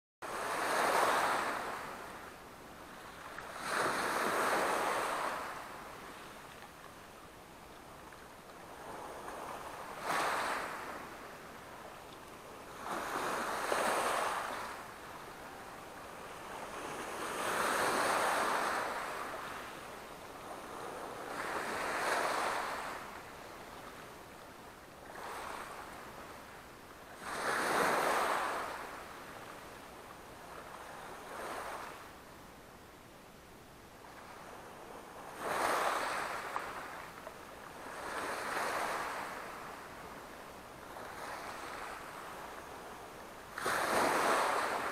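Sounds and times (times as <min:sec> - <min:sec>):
small waves washing on shore: 0:00.2 - 0:32.8, 0:33.7 - 0:44.9.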